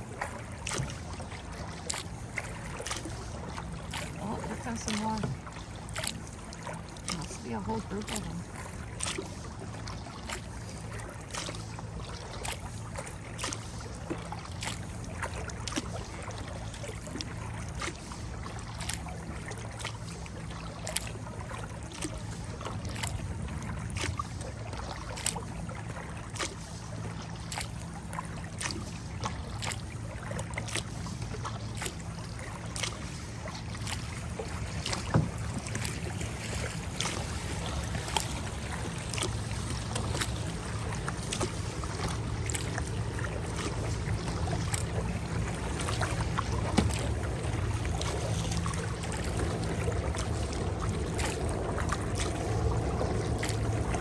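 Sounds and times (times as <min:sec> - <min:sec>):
constant low hum: 0:00.0 - 0:54.0
kayak paddle strokes: 0:00.0 - 0:54.0.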